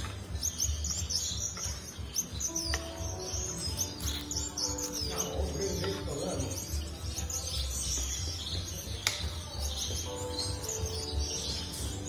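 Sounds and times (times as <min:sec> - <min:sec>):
background music of held notes: 0:00.0 - 0:12.0
birdsong-like chirps: 0:00.0 - 0:12.0.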